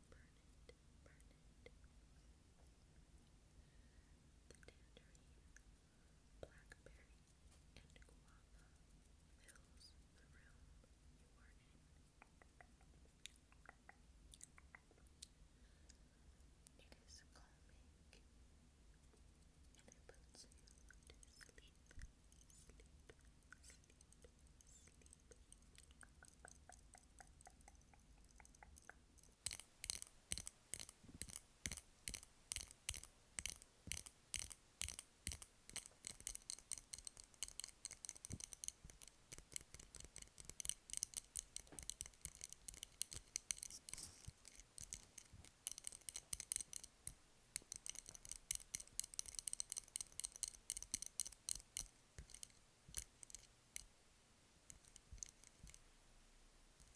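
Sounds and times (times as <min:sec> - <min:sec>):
faint ticks: 0:00.0 - 0:02.0, 0:06.4 - 0:18.3, 0:18.9 - 0:56.1, 0:56.7 - 0:56.9.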